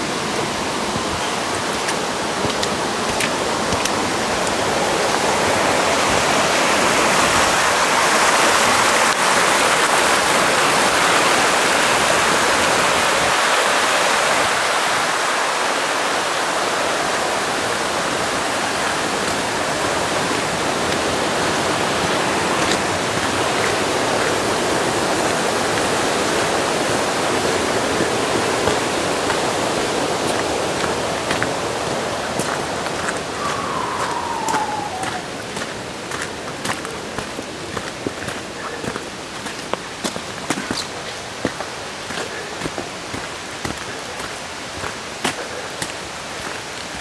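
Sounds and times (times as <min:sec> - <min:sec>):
stream of running water: 0:00.0 - 0:47.0.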